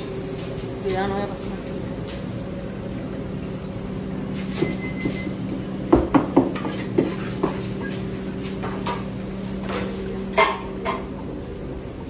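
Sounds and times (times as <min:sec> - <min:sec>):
low hum of kitchen equipment: 0:00.0 - 0:12.0.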